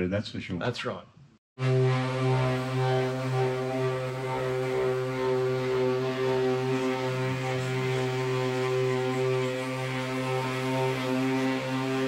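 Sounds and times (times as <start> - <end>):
orbital sander running: 1.6 - 12.0.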